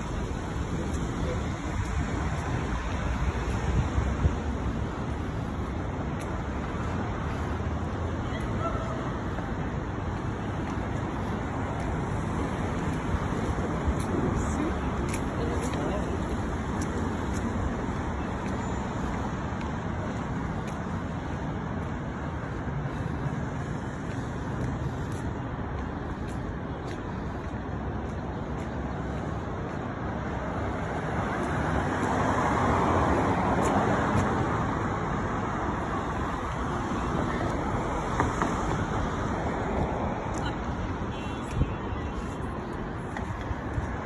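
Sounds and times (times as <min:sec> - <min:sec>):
passing cars: 0:00.0 - 0:44.0.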